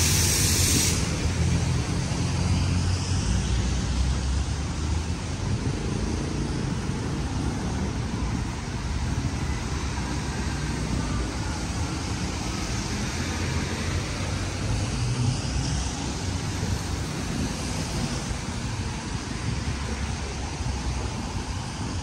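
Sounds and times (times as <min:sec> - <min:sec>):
low traffic rumble: 0:00.0 - 0:22.0
traffic hiss on wet streets: 0:00.0 - 0:22.0.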